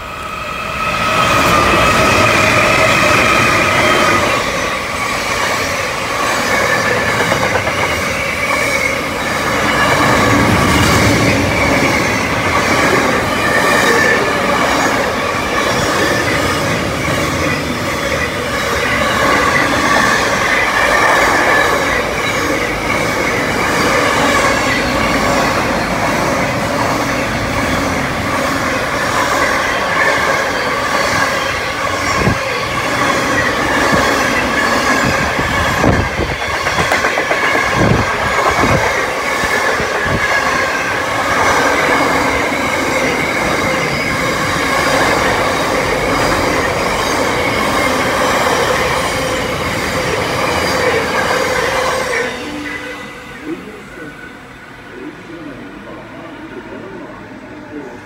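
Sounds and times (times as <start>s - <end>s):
high squeal from train wheels: 0.0s - 55.1s
wheels clacking over rail joints: 1.3s - 52.3s.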